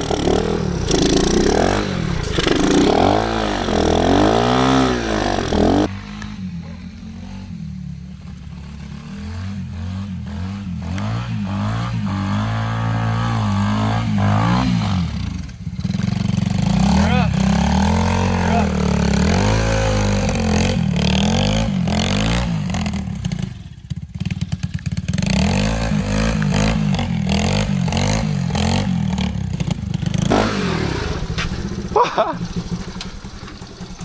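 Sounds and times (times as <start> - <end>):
minibike engine revving: 0.0 - 34.0.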